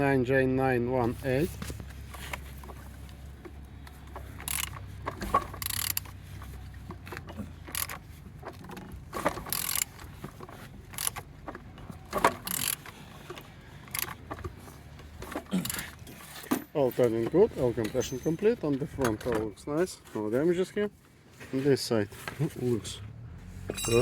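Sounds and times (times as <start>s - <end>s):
engine turned over with wrench: 1.2s - 19.6s, 22.3s - 24.0s.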